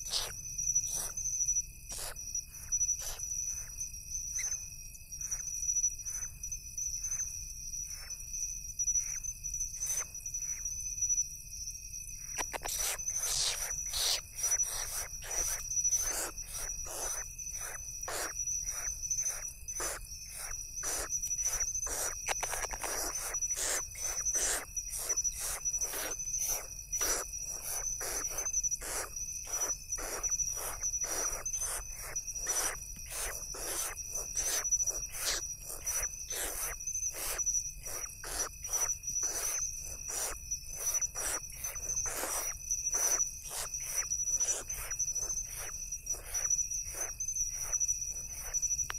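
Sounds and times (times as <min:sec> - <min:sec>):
owl chicks hissing rasps: 0:00.0 - 0:01.2, 0:01.9 - 0:03.7, 0:12.2 - 0:48.6
high-pitched insect trill: 0:00.0 - 0:48.9.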